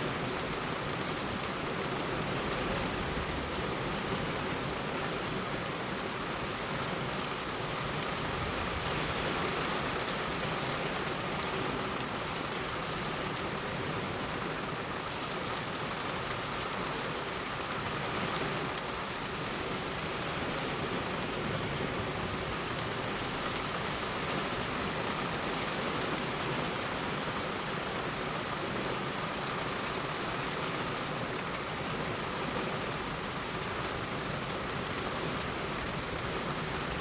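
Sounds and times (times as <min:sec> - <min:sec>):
heavy rain on a road: 0:00.0 - 0:37.0.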